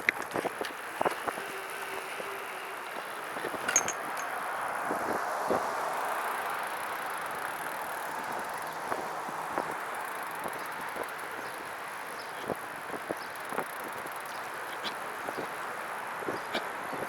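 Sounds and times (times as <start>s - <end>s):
tyres and wind hiss: 0.0s - 17.0s.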